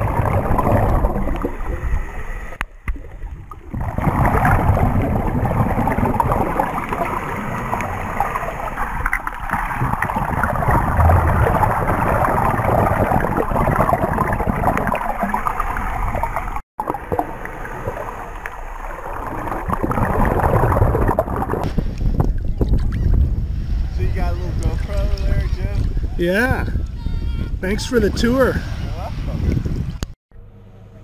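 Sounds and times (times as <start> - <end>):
muffled water rushing and gurgling: 0.0 - 26.6.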